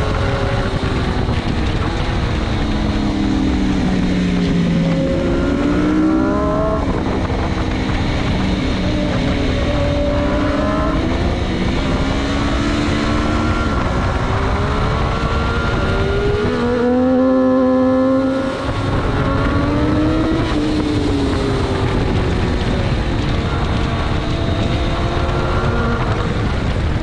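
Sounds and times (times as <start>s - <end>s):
motorcycle engine revving: 0.0s - 27.0s
wind rushing: 0.0s - 27.0s.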